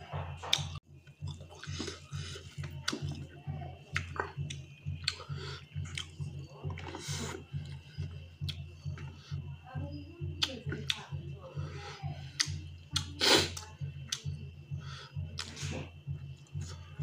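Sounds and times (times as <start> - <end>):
steady low hum: 0.0 - 17.0
person chewing food: 0.3 - 9.4, 12.3 - 16.8.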